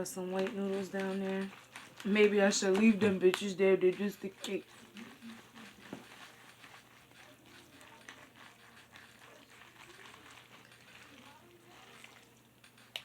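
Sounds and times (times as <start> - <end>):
utensil stirring noodles: 0.0 - 13.0.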